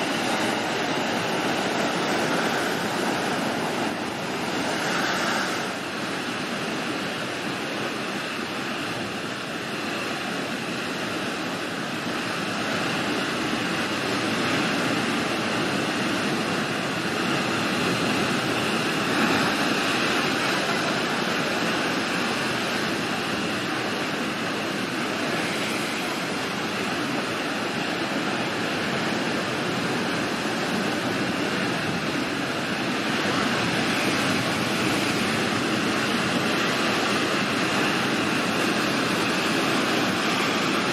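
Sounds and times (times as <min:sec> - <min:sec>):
heavy sea waves breaking: 0:00.0 - 0:40.9.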